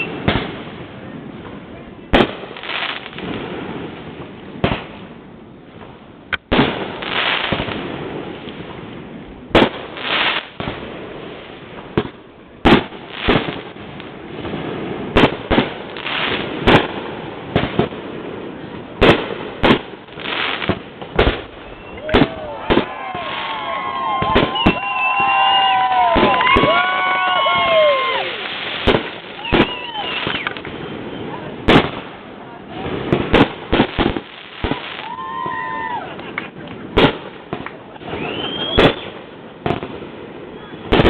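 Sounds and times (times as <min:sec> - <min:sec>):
fireworks bursting bangs: 0:00.0 - 0:41.0.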